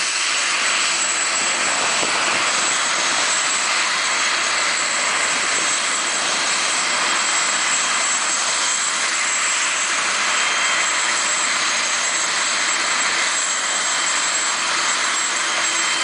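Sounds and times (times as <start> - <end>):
helicopter turbine whine: 0.0 - 16.0
rotor and exhaust rush: 0.0 - 16.0.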